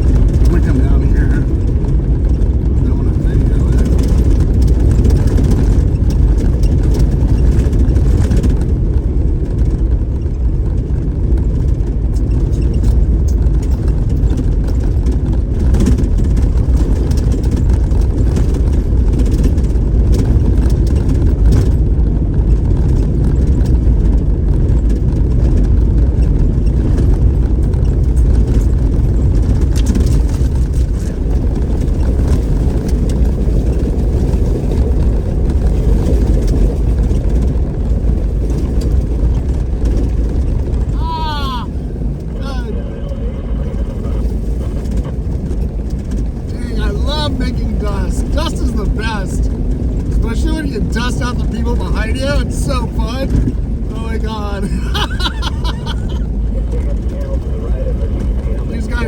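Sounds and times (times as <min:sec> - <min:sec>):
off-road vehicle engine rumble: 0:00.0 - 0:59.0.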